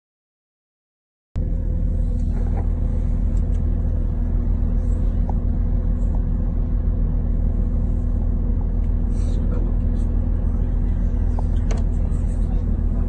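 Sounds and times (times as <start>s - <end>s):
diesel train engine idling: 1.4s - 13.0s.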